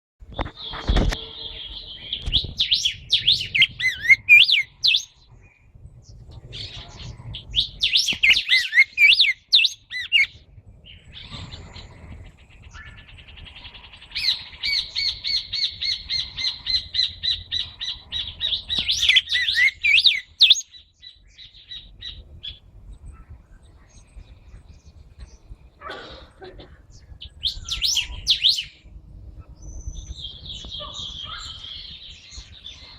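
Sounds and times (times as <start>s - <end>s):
songbirds singing: 0.3s - 32.9s.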